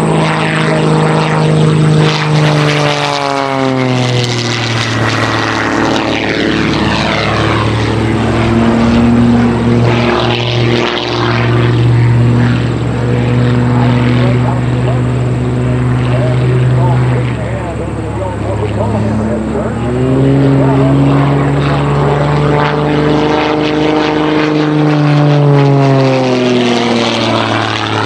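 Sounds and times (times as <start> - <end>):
propeller engines droning: 0.0 - 28.0.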